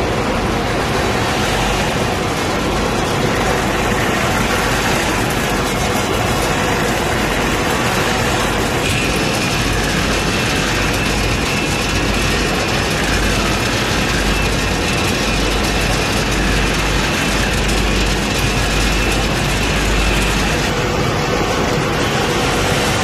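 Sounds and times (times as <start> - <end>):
conveyor mechanical clatter: 0.0 - 23.0.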